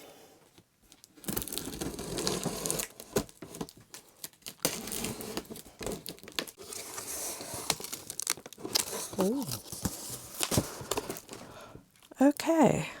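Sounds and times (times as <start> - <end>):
packaging crinkling and rustling: 0.9 - 12.2.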